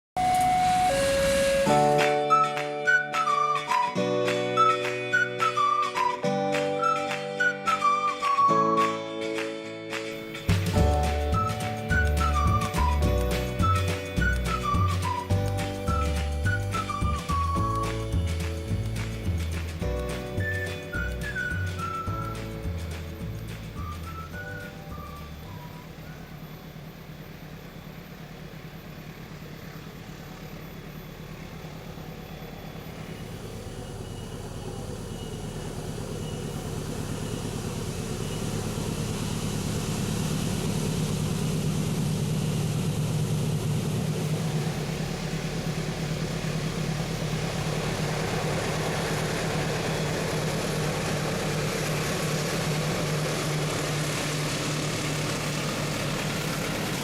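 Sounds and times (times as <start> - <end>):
locomotive engine humming: 0.1 - 57.0
train running hiss: 0.2 - 6.1, 10.0 - 57.0.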